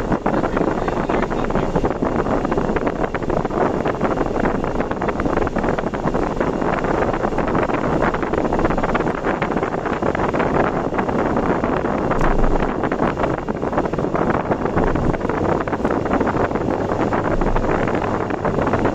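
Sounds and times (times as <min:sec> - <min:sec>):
vehicle wind and road noise: 0:00.0 - 0:18.9
wind buffeting microphone: 0:00.0 - 0:18.9.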